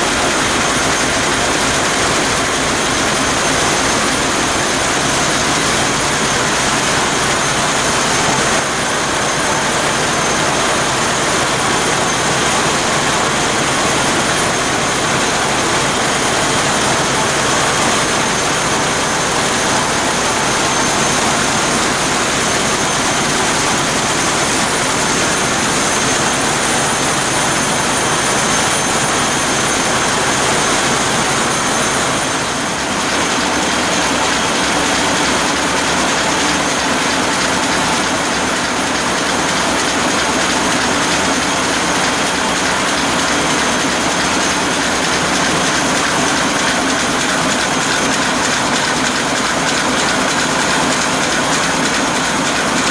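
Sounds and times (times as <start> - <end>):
marine diesel engine running: 0.0 - 52.9.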